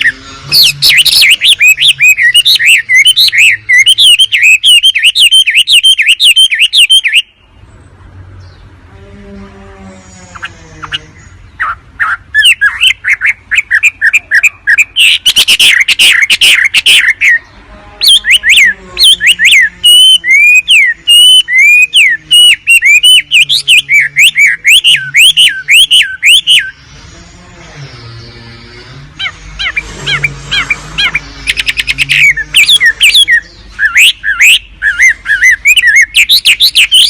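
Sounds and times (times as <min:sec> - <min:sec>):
bird song chirps and whistles: 0:00.0 - 0:07.6, 0:10.4 - 0:26.8, 0:31.0 - 0:37.0.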